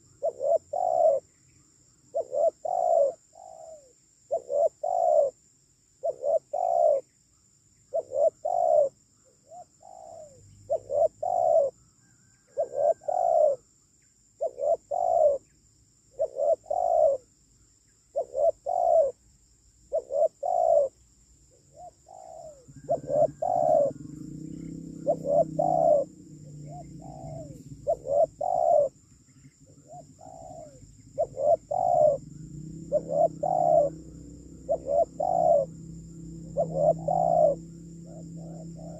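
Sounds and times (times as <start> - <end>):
dove cooing: 0.0 - 1.4, 2.1 - 5.4, 6.0 - 7.1, 7.9 - 13.6, 14.4 - 15.5, 16.1 - 17.3, 18.1 - 19.2, 19.9 - 38.9.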